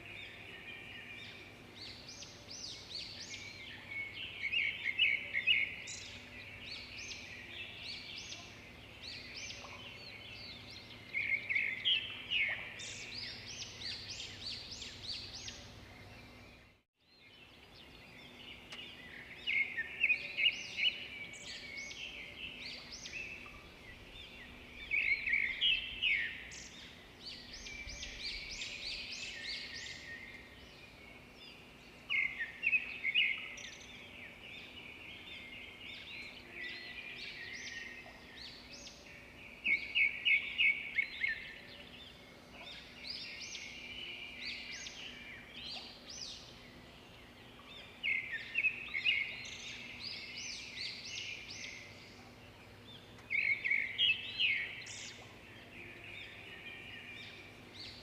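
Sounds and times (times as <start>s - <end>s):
faint background noise: 0.0s - 58.0s
songbirds chirping: 0.0s - 58.0s.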